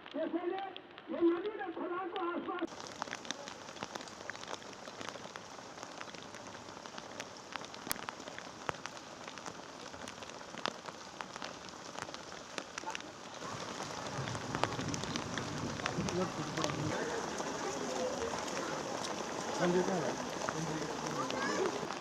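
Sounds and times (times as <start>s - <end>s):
snow pattering on a surface: 0.0s - 22.0s.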